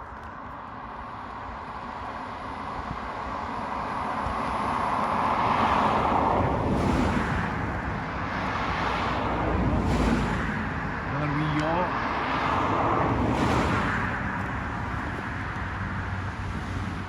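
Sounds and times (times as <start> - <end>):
vehicle approaching: 0.1 - 17.0
vehicle passing: 3.2 - 17.0.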